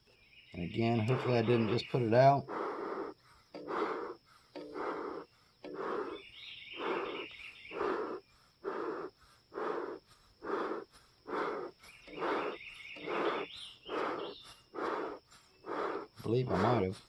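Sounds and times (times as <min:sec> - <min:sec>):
bellows puffing air: 0:00.8 - 0:17.0.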